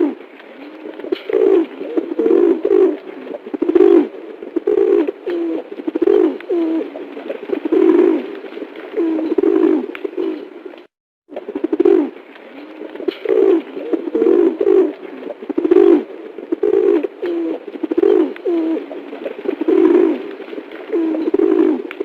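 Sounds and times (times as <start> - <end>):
bird calling low: 0.0 - 10.7, 11.6 - 22.0.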